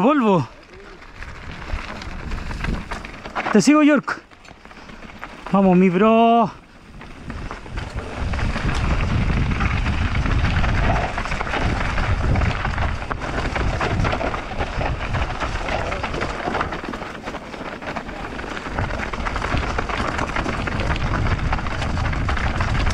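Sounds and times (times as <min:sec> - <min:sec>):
wind rumbling on microphone: 0:00.0 - 0:03.5, 0:04.5 - 0:22.9
bike rattling: 0:00.0 - 0:22.9
tyres on loose dirt and stones: 0:00.0 - 0:22.9.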